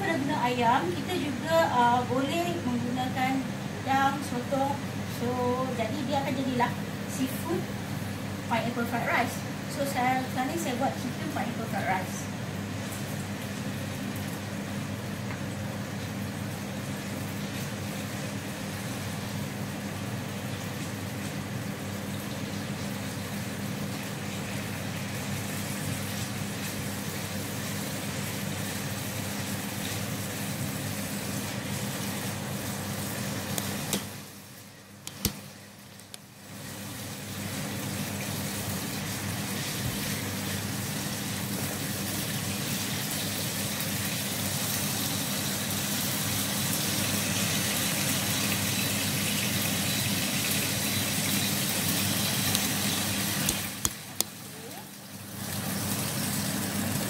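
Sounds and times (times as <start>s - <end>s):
fan hum: 0.0s - 57.0s
chicken sizzling in oil: 3.8s - 57.0s.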